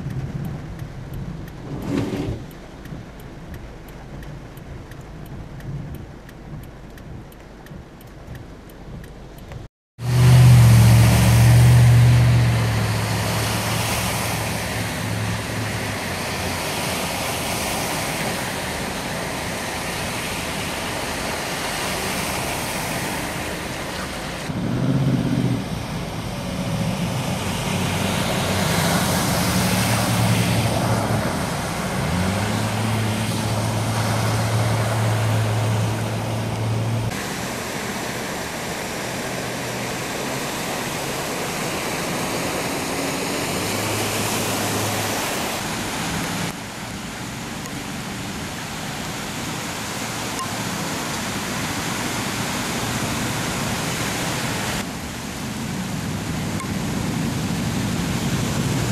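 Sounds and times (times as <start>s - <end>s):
car engine hum: 0.0s - 58.9s
tyres splashing through water: 0.0s - 58.9s.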